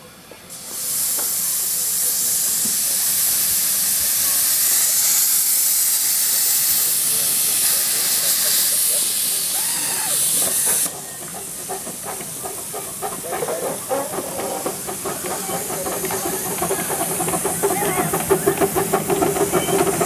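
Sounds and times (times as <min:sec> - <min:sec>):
miniature steam train running by: 0:00.0 - 0:20.0
steam hissing: 0:00.5 - 0:20.0.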